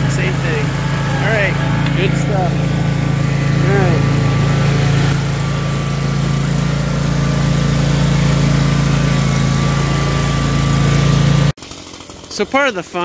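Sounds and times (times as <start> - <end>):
lawn tractor engine running: 0.0 - 13.0.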